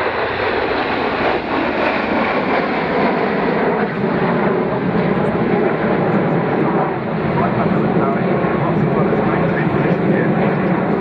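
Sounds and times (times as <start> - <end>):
jets passing overhead: 0.0 - 11.0.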